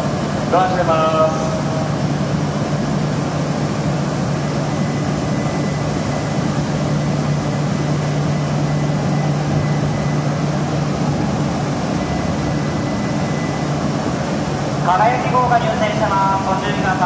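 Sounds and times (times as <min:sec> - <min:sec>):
train hum and rush: 0:00.0 - 0:17.0.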